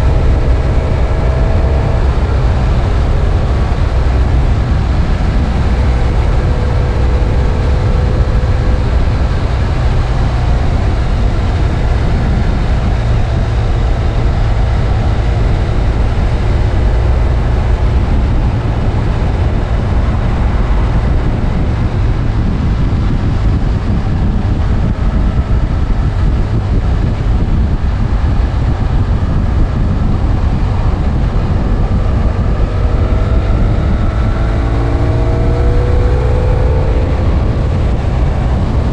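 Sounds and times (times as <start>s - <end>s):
motorcycle engine drone: 0.0s - 38.9s
wind rumble on microphone: 0.0s - 38.9s.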